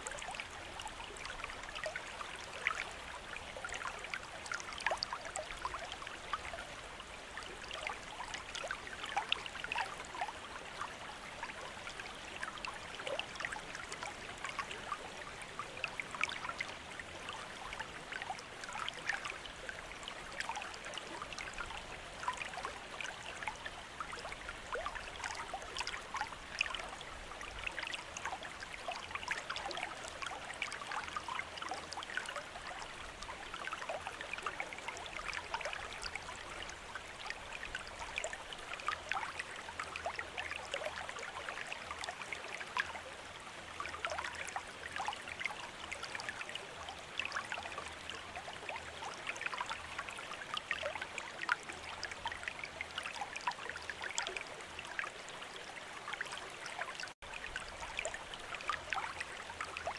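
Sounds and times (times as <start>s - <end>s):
fountain water trickling into basin: 0.0s - 59.9s.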